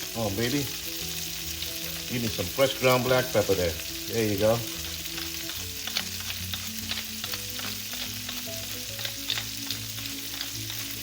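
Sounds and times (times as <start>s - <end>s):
garlic and onions sizzling in fat: 0.0s - 11.0s.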